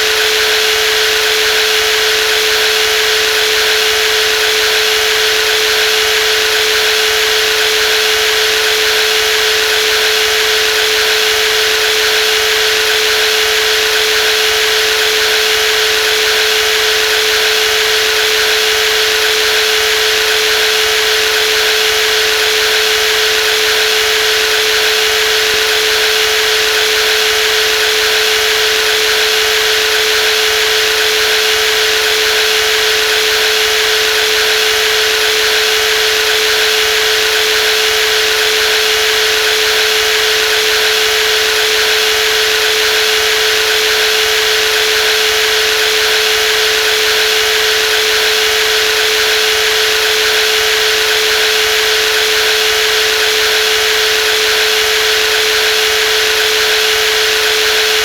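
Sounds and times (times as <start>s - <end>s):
jigsaw motor whine: 0.0s - 58.0s.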